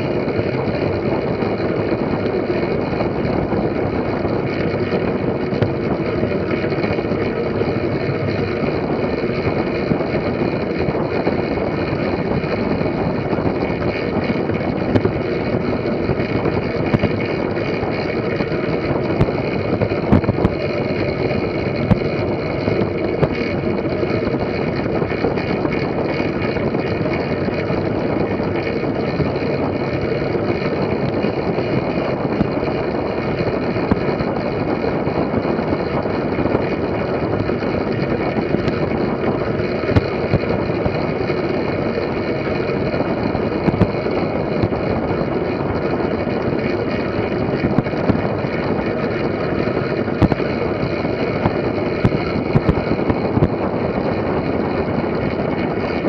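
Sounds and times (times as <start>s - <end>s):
bicycle tyres rumbling on track: 0.0s - 56.0s
wind rushing over camera: 0.0s - 56.0s.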